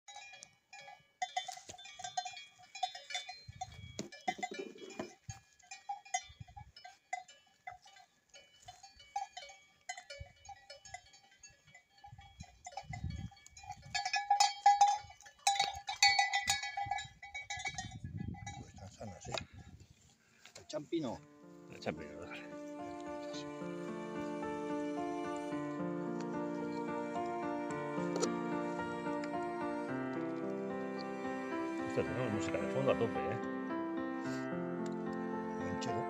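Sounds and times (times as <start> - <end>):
cowbells clanking: 0.0 - 19.9, 20.7 - 33.7, 34.3 - 36.0.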